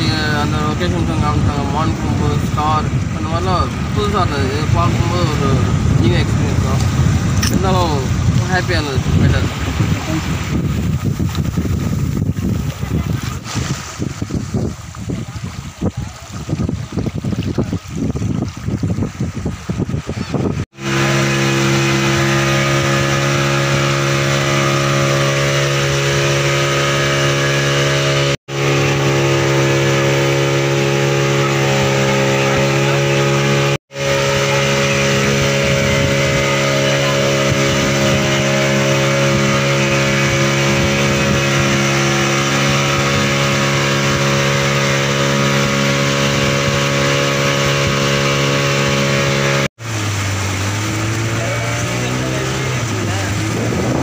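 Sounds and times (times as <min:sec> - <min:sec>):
motorboat engine running: 0:00.0 - 0:54.0
water rushing past hull: 0:00.0 - 0:54.0.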